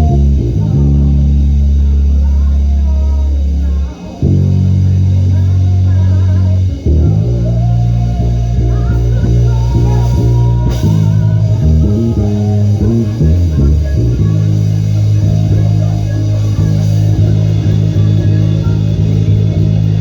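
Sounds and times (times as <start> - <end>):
electric bass guitar playing: 0.0 - 20.0.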